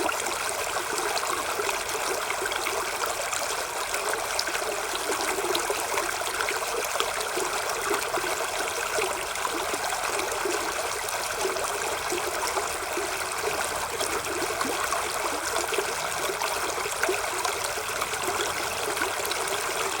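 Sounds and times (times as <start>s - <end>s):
running water trickling: 0.0s - 20.0s.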